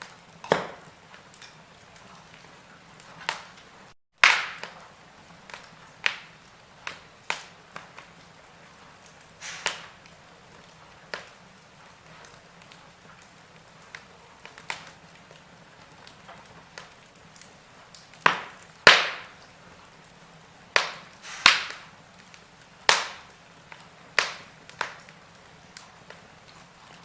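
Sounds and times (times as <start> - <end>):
faint fire hiss: 0.0 - 27.0
wood fire crackling and popping: 0.0 - 27.0.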